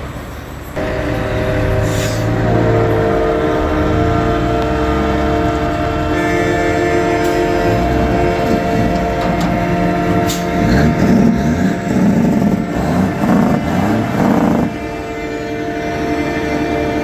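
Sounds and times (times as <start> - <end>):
diesel truck engines rumbling: 0.0 - 17.0
truck air horn chord: 0.8 - 17.0.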